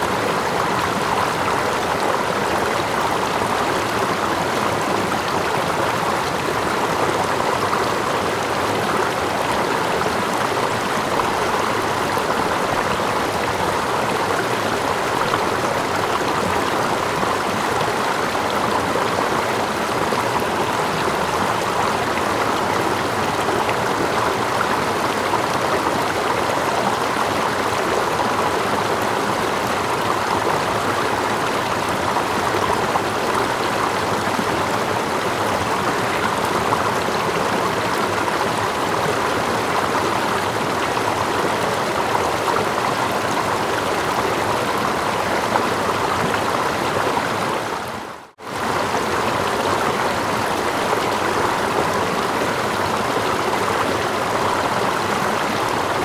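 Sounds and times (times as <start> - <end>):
distant small waterfall: 0.0 - 56.0
stream water rushing: 0.0 - 56.0.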